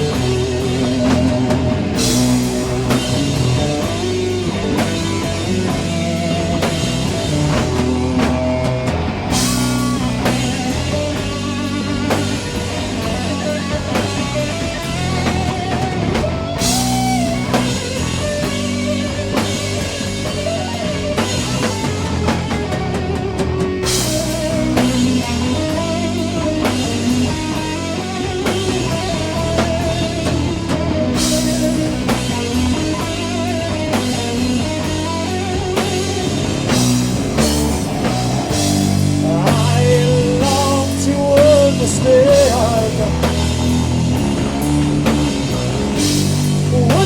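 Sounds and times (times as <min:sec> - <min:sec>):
doom metal band playing: 0:00.0 - 0:47.0.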